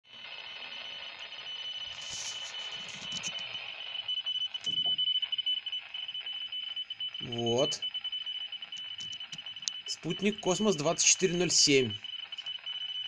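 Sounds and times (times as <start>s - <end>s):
steady high radio tone: 0.1s - 13.0s.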